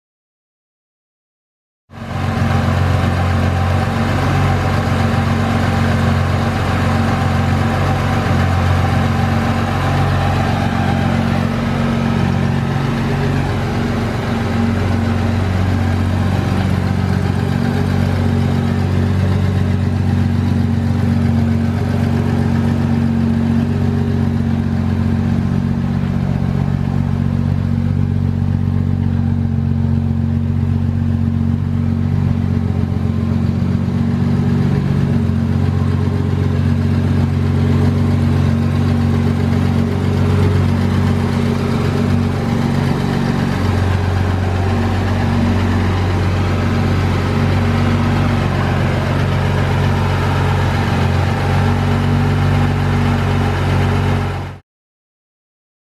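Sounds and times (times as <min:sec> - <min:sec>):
car engine idling: 0:02.0 - 0:54.6.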